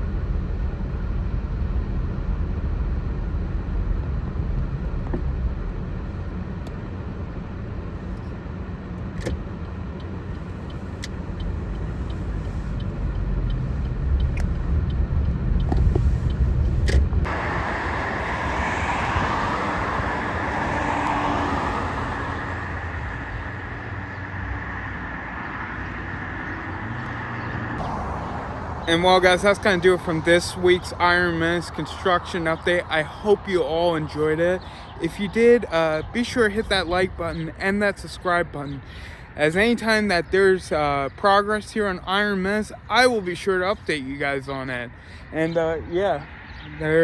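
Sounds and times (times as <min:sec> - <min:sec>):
cars passing: 0:00.0 - 0:47.0.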